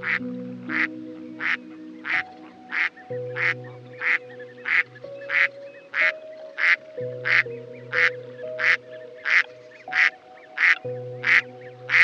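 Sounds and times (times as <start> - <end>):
duck quacking: 0.0 - 12.0
soft piano music: 0.0 - 12.0.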